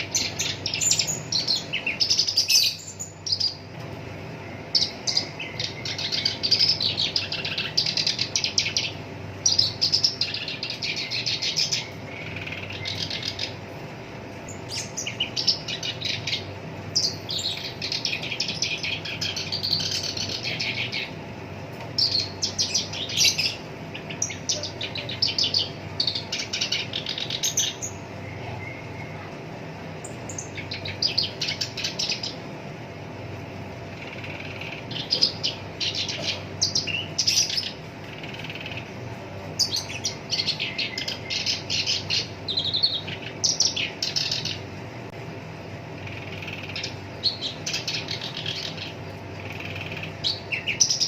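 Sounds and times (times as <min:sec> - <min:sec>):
warbler singing chattering song: 0:00.0 - 0:51.0.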